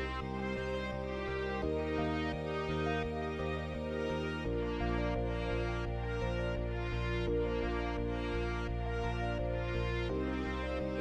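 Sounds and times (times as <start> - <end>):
background music with steady pulse: 0.0 - 11.0.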